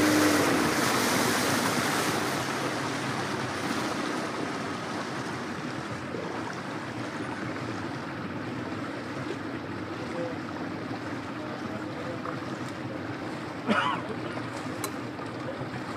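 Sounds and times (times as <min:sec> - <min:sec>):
motorboat engine hum: 0:00.0 - 0:15.9
water rushing along hull: 0:00.0 - 0:15.9.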